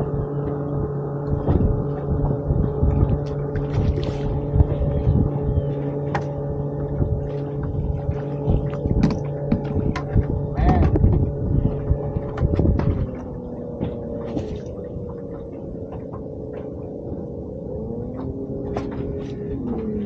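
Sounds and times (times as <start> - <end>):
electric boat motor humming: 0.0 - 20.0
heavy rumble with knocks: 0.0 - 20.0.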